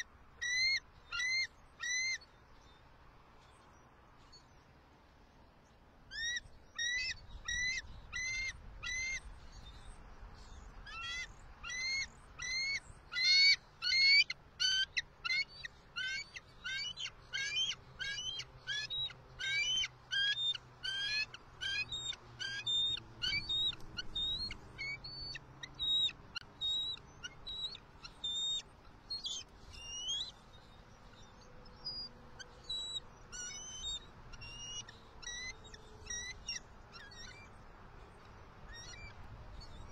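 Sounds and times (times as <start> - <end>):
eagle chirping calls: 0.0 - 2.3, 6.1 - 9.8, 10.4 - 37.6, 38.7 - 39.9.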